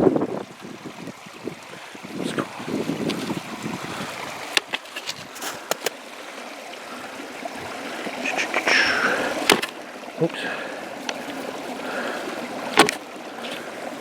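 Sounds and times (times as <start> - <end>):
water running in a stream: 0.0 - 14.0.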